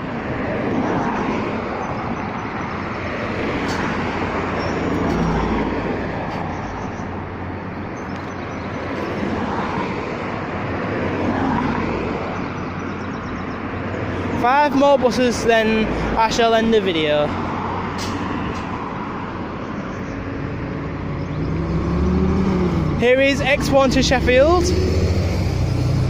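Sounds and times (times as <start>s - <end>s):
bus engine hum: 0.0s - 14.4s, 15.2s - 26.0s
traffic noise: 0.0s - 26.0s.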